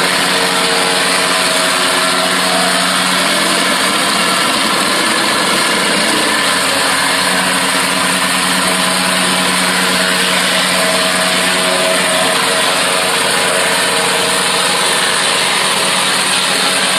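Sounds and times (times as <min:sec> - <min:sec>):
plate compactor on gravel: 0:00.0 - 0:16.9.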